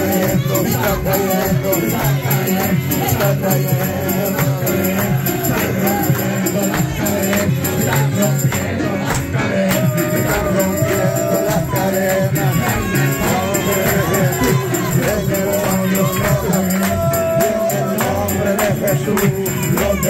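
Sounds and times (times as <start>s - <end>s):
amplified accompaniment with bass beat: 0.0s - 20.0s
man singing through microphone: 0.0s - 20.0s
tambourine jingling: 0.0s - 20.0s.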